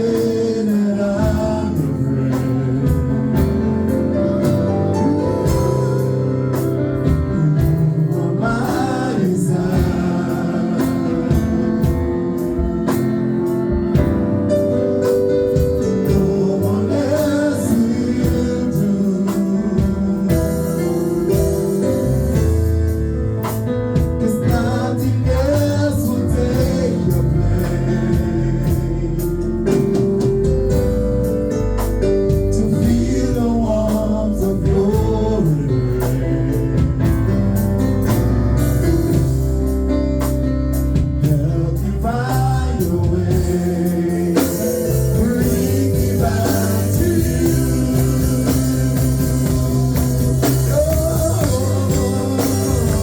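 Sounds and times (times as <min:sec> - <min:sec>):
gospel singing with a band: 0:00.0 - 0:53.0.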